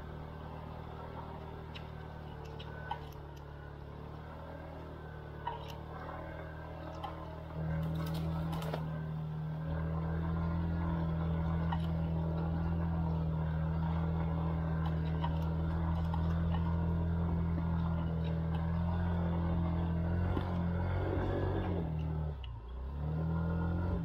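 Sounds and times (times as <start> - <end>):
scooter engine running hard: 0.0 - 21.7.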